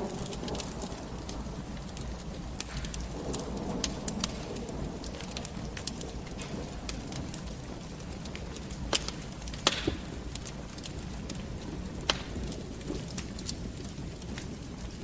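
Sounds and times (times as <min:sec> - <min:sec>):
fireplace fire crackling and popping: 0:00.0 - 0:15.0.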